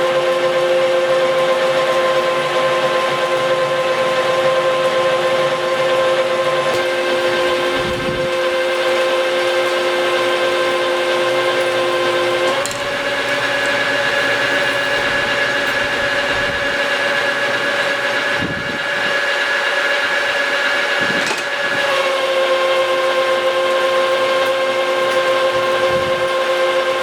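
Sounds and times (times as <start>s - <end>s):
lathe tool squealing: 0.0s - 27.0s.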